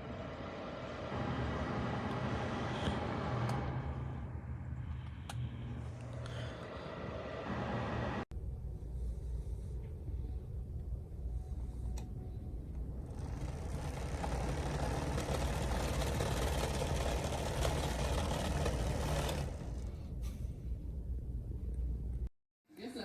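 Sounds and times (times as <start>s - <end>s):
heater fan blowing air: 0.0s - 8.2s, 9.8s - 20.8s
steady low hum: 0.0s - 22.3s.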